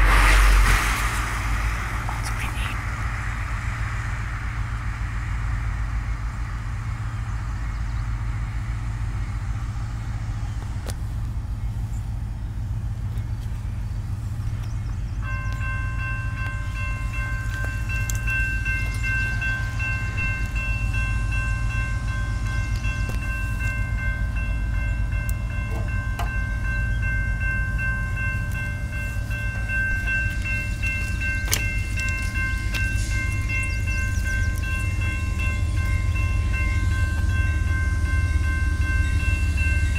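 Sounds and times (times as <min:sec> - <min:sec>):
crossing warning bell ringing: 0:00.0 - 0:39.9
diesel locomotives rumbling: 0:00.0 - 0:39.9.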